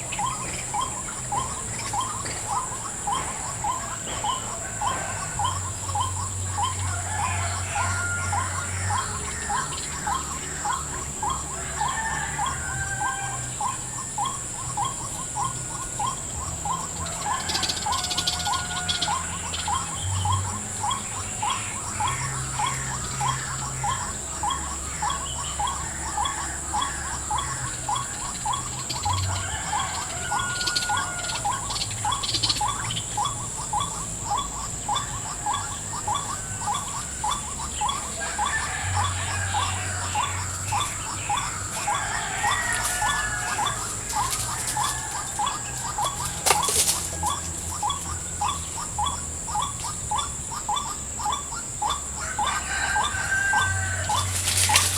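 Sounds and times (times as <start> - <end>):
steady high-pitched whine: 0.0 - 54.9.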